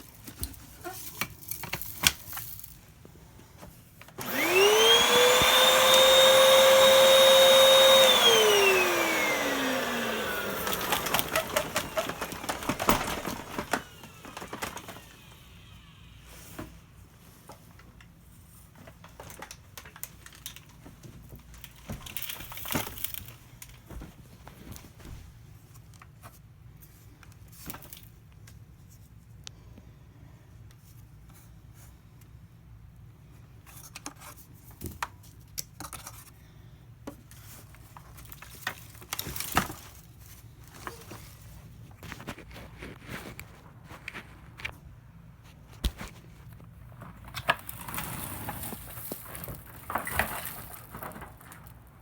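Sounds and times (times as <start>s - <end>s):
crinkling and rustling: 0.0s - 29.2s, 37.1s - 52.0s.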